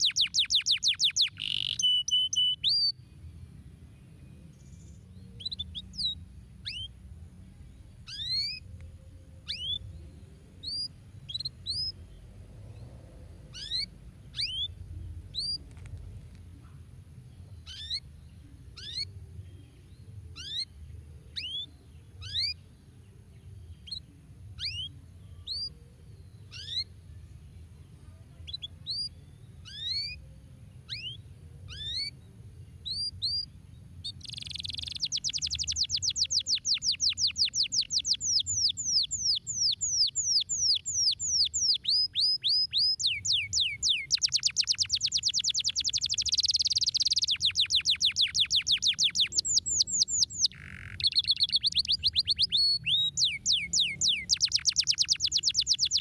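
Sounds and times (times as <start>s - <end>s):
canary chirps: 0.0s - 3.0s, 4.2s - 22.8s, 23.4s - 27.0s, 28.4s - 56.0s
canary trilled song: 0.0s - 22.8s, 23.6s - 27.1s, 28.4s - 32.2s, 32.8s - 56.0s.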